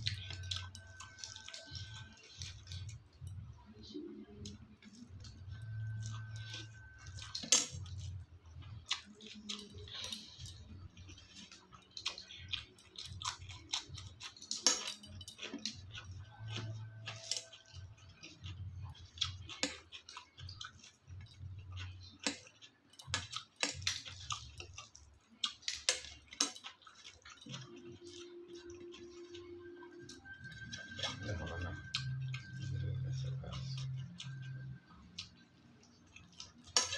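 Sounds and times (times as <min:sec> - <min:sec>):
eating sounds: 0:00.0 - 0:36.9.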